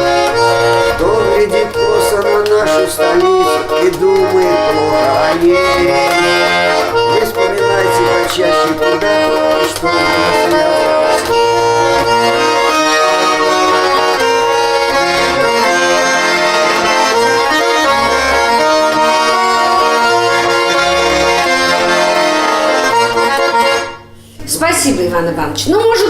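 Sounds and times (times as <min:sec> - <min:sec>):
button accordion playing folk music: 0:00.0 - 0:24.2.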